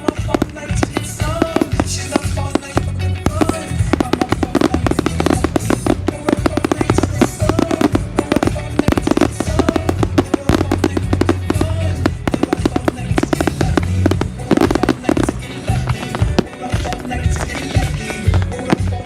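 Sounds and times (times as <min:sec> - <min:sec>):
fireworks bangs and crackles: 0:00.0 - 0:19.0
loud music with heavy bass: 0:00.0 - 0:19.0.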